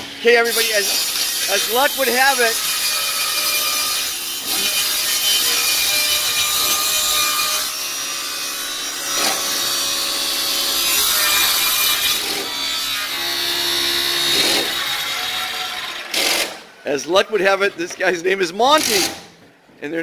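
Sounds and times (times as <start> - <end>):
circular saw cutting plywood: 0.4 - 16.6.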